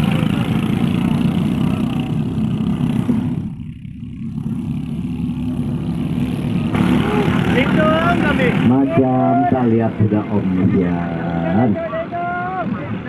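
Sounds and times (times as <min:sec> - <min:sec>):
boat engines running hard: 0:00.0 - 0:13.0.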